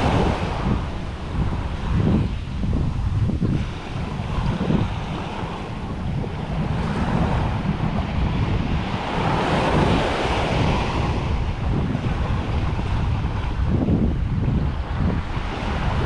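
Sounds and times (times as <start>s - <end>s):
small waves washing onto sand: 0.0s - 16.0s
wind buffeting microphone: 0.0s - 16.0s.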